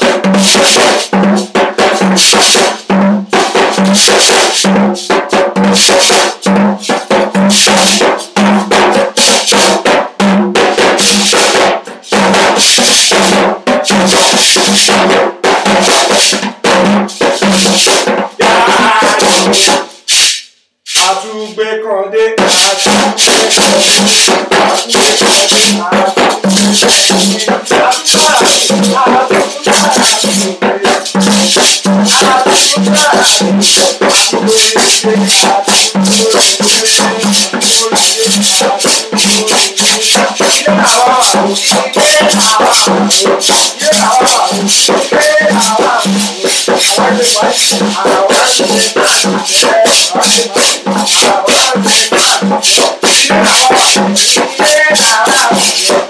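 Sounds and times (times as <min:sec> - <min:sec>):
frame drum beat: 0:00.0 - 0:20.3, 0:22.4 - 0:56.0.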